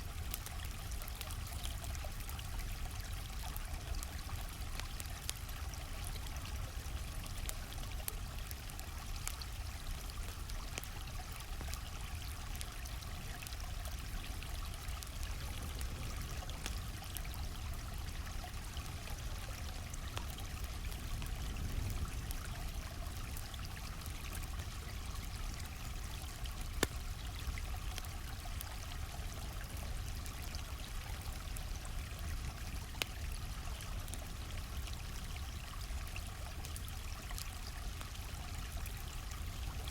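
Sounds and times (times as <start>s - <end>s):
campfire crackling: 0.0s - 39.9s
flowing stream: 0.0s - 39.9s.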